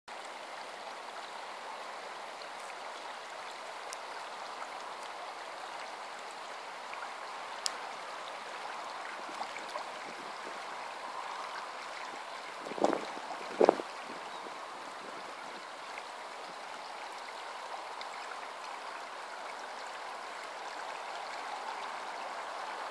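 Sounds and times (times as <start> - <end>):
water rushing over rocks: 0.1 - 22.9.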